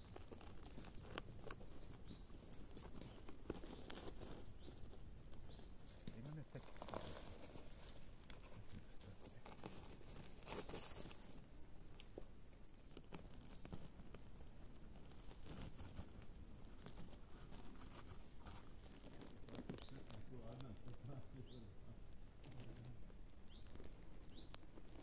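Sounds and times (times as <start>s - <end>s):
twigs and needles crackling: 0.0s - 25.0s.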